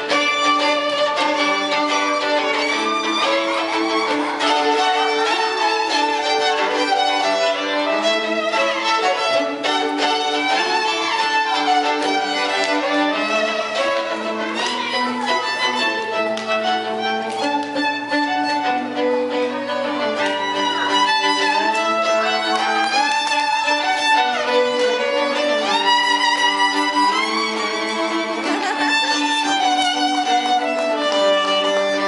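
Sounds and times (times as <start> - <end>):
violin duet: 0.0 - 32.0.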